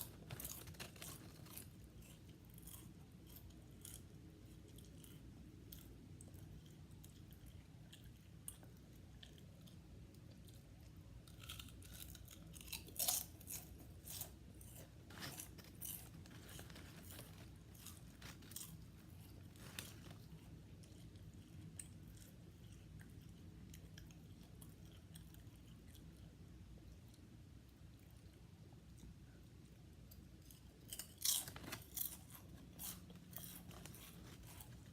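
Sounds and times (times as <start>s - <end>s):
crunching potato chips: 0.0s - 26.2s, 30.4s - 34.9s
low background hum: 0.0s - 34.9s.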